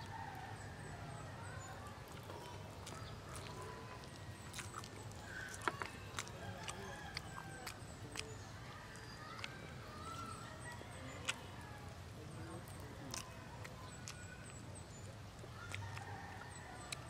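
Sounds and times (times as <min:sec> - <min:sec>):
chewing and lip smacks: 0:00.0 - 0:17.0.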